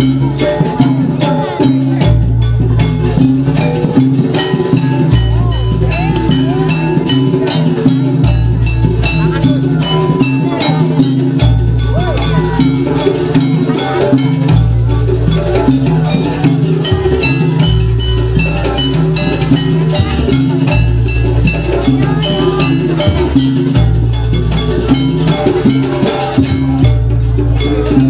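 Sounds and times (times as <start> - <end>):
ringing metal percussion: 0.0 - 28.0
steady drumming: 0.0 - 28.0.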